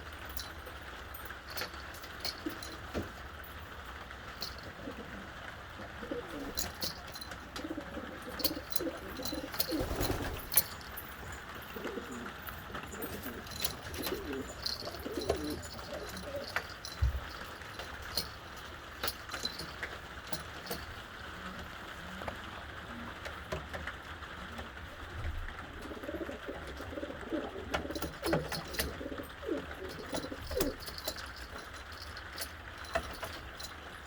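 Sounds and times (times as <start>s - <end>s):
pigeons cooing: 0.4s - 33.7s.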